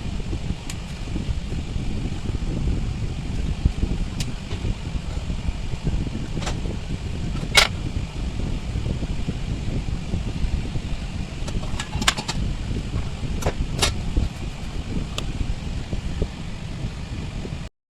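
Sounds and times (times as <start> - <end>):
steady low rumble: 0.0 - 17.7.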